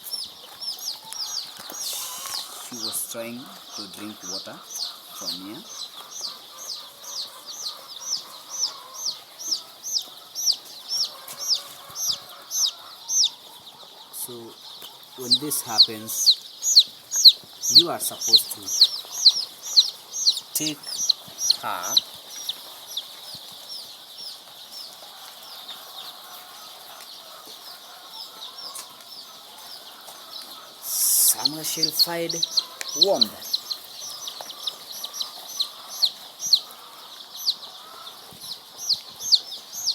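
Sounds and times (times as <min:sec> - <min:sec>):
chick peeping loudly: 0:00.0 - 0:39.9.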